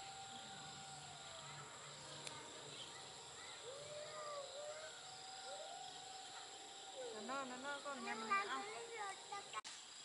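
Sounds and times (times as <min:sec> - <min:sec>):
steady high-pitched hum: 0:00.0 - 0:09.6.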